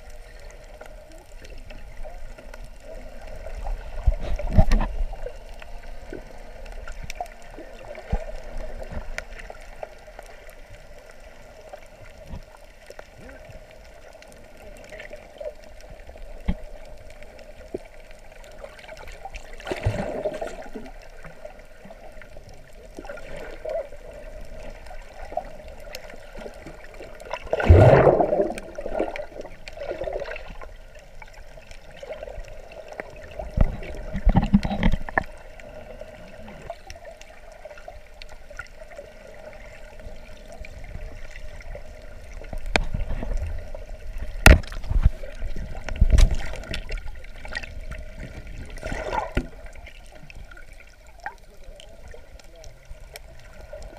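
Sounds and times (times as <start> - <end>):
underwater swishing and gurgling: 0.0 - 53.9.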